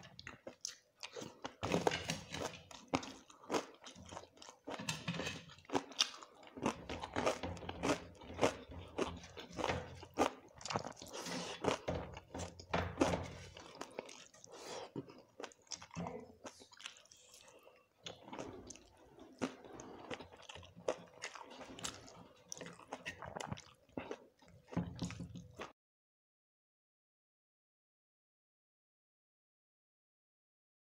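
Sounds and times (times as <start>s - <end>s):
chewing and crunching food: 0.0s - 25.8s.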